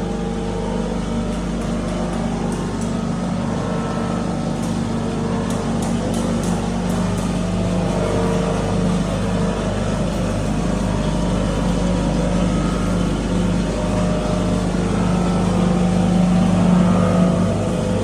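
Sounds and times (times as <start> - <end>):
feed grinder motor humming: 0.0 - 18.0.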